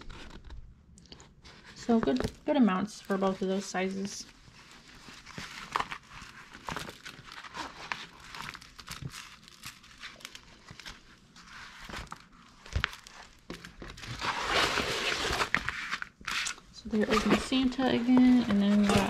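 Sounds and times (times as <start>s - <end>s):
plastic film crinkling: 1.7s - 19.0s.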